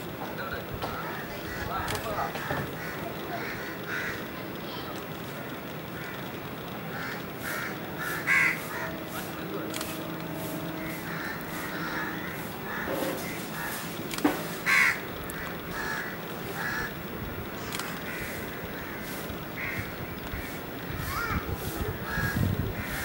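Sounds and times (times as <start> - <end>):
faint steady hum: 0.0 - 23.0
crows cawing: 0.9 - 4.9, 5.8 - 17.0, 17.6 - 23.0.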